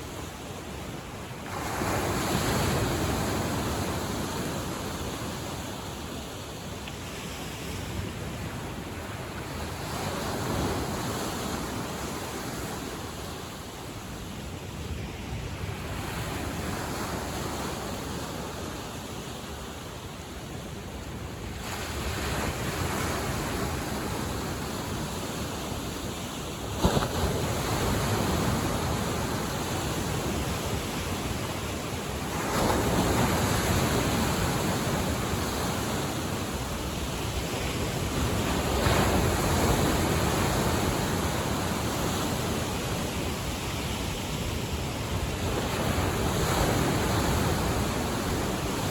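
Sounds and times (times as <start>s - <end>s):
waves washing onto shore: 0.0s - 48.9s.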